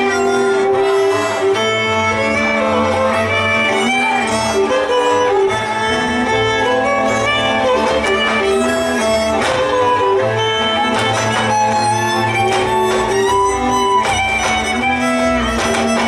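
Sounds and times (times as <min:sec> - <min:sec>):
fiddle playing lively tune: 0:00.0 - 0:16.0
string accompaniment: 0:00.0 - 0:16.0.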